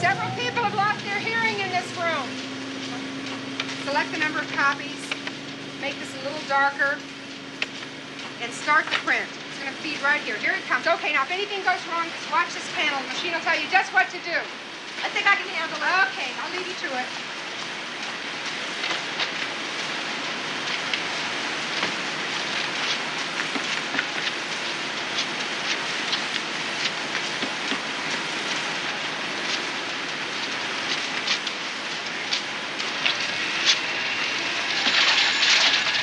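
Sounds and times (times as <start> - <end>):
copier rattling and whirring: 0.0 - 36.0
paper sheets feeding clicks: 0.4 - 14.3, 14.9 - 36.0.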